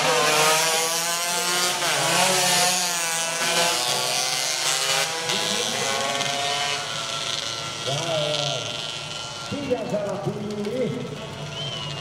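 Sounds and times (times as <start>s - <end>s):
race motorcycles at high revs: 0.0s - 12.0s.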